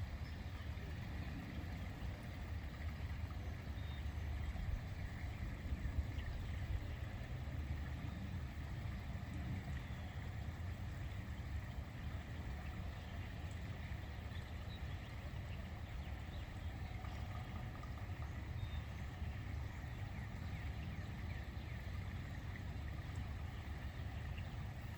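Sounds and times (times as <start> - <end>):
water pouring over small dam: 0.4 - 24.9.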